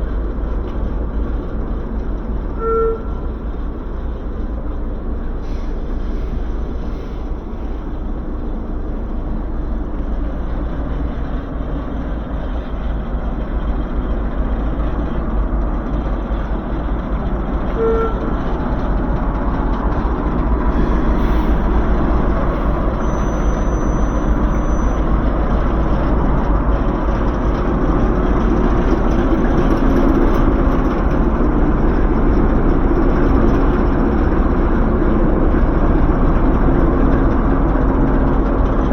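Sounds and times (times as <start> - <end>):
deep rumble: 0.0 - 38.9
train running: 0.0 - 38.9.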